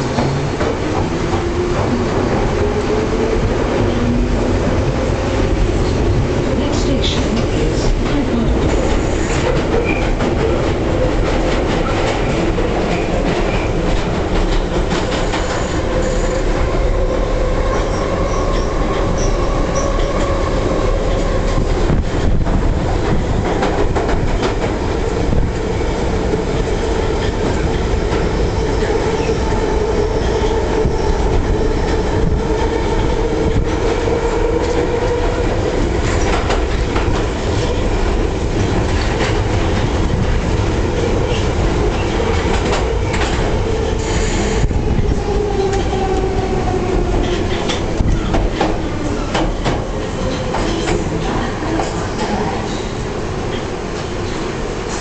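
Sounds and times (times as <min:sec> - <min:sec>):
train rumble in tunnel: 0:00.0 - 0:55.0.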